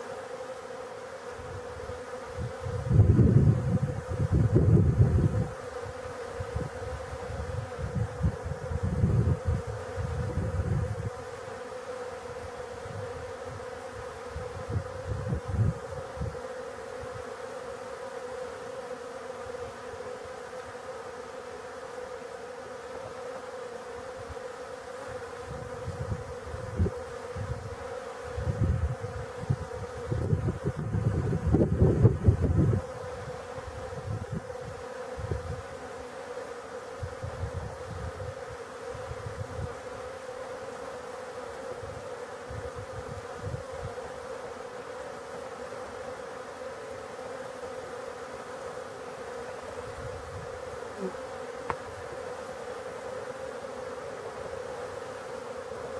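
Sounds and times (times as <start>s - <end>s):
bees buzzing: 0.0s - 55.9s.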